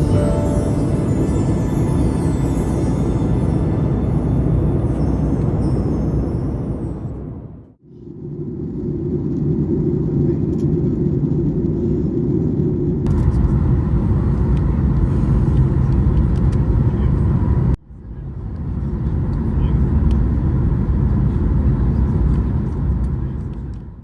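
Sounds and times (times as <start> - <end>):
jet airliner cabin rumble: 0.7 - 24.0.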